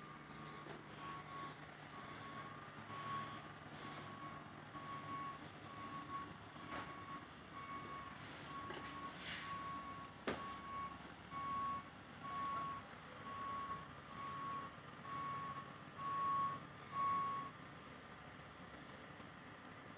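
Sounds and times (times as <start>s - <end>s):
reversing alarm beeping: 0.0s - 17.6s.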